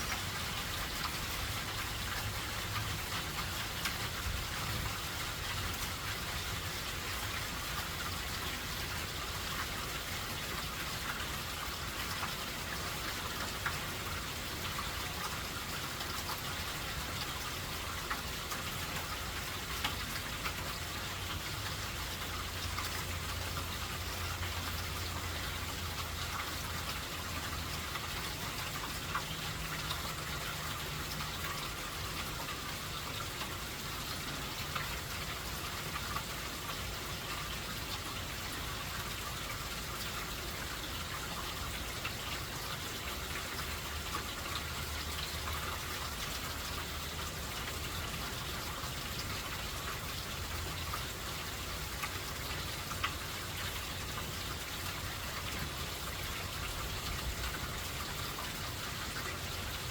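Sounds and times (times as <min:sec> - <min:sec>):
raindrops ticking: 0:00.0 - 0:59.9
steady rain hiss: 0:00.0 - 0:59.9.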